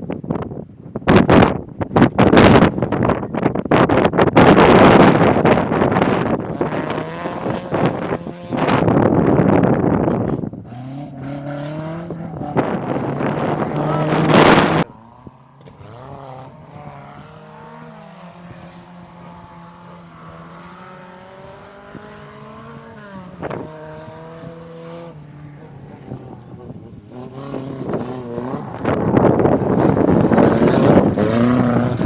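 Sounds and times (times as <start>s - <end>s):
rally car engine at full throttle: 0.0s - 32.0s.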